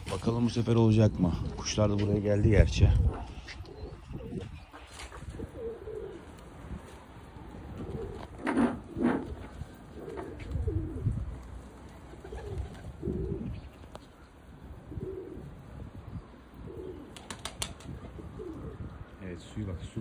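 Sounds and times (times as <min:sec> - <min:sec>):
pigeons cooing: 0:02.7 - 0:19.1.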